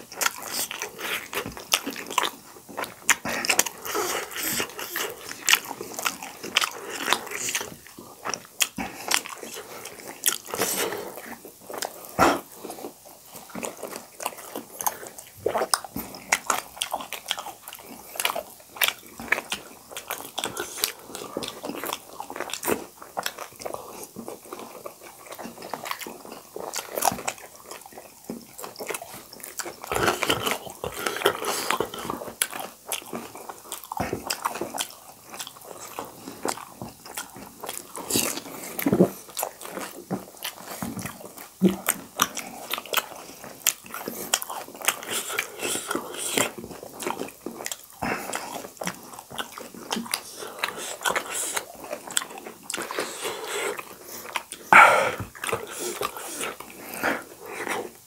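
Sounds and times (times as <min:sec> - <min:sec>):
people chewing food: 0:00.0 - 0:58.0.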